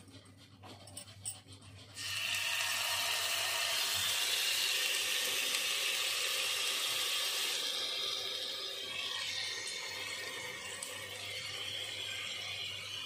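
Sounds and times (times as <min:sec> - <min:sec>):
chicken sizzling in hot oil: 0:02.0 - 0:13.0.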